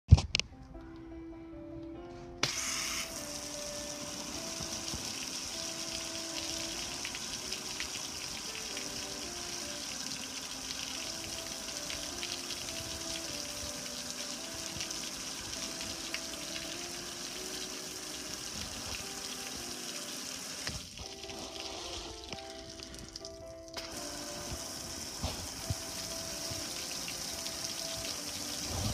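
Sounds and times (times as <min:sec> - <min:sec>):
quiet simple melody: 0:00.1 - 0:28.9
hose water spray hissing: 0:02.4 - 0:28.9.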